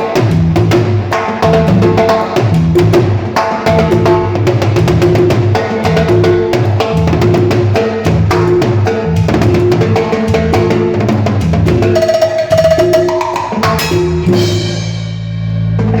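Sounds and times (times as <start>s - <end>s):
drum kit and percussion: 0.0s - 16.0s
live band playing: 0.0s - 16.0s.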